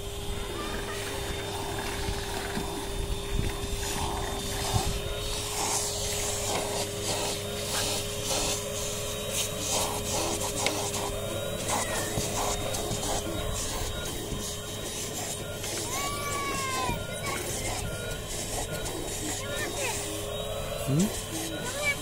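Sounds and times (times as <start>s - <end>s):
vacuum cleaner running: 0.0s - 22.0s
vacuum nozzle scraping the floor: 3.6s - 22.0s.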